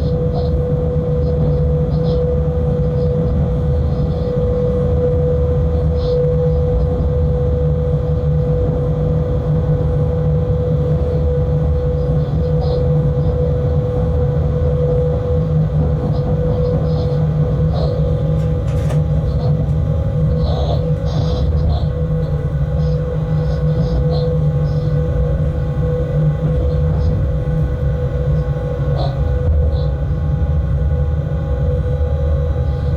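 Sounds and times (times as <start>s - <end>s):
locomotive rumble from cab: 0.0s - 32.9s
steady droning tone: 0.0s - 32.9s.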